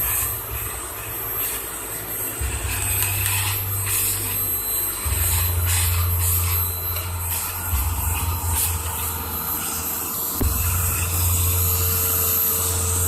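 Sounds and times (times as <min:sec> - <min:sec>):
vacuum cleaner whining: 0:00.0 - 0:13.0.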